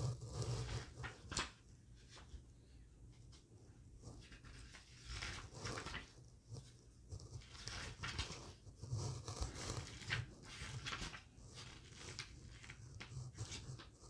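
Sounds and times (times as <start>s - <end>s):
paper pages rustling: 0.0s - 2.4s, 3.1s - 14.0s.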